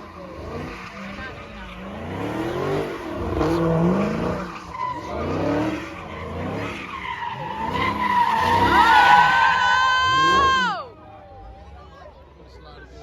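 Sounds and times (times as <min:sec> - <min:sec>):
car engine revving: 0:00.0 - 0:10.7
tires skidding and squealing: 0:00.0 - 0:10.9.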